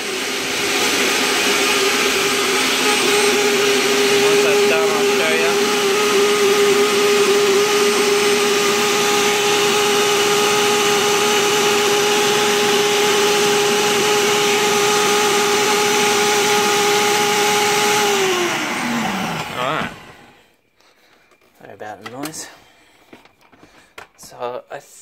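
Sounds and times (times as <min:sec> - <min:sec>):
blender running: 0:00.0 - 0:20.5.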